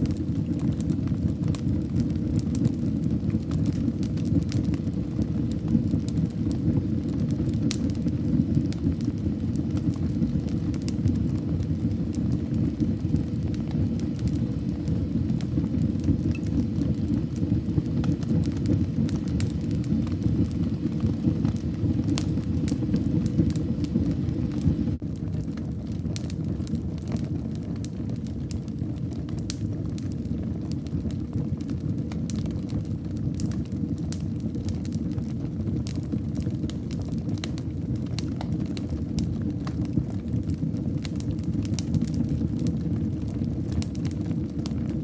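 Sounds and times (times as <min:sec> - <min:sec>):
fire crackling and popping: 0:00.0 - 0:45.0
fire flames rumbling: 0:00.0 - 0:45.0.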